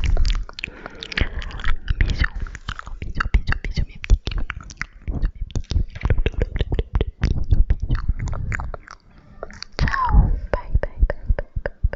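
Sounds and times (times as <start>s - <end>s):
tongue clicks: 0.0s - 9.9s
chewing-like squelches: 0.0s - 10.0s
lip smacks: 0.0s - 10.0s.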